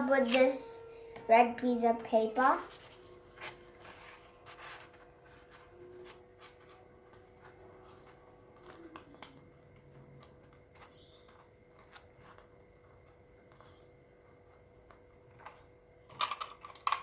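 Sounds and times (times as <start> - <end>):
faint steady hum: 0.0 - 17.0
paper rustling: 2.3 - 17.0.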